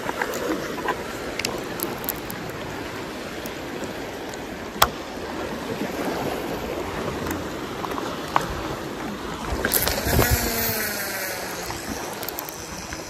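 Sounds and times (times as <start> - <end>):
sea water lapping on rocks: 0.0 - 13.0.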